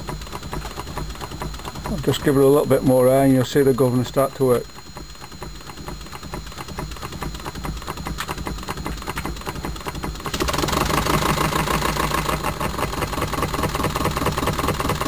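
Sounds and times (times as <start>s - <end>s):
model engine clattering: 0.0s - 15.0s.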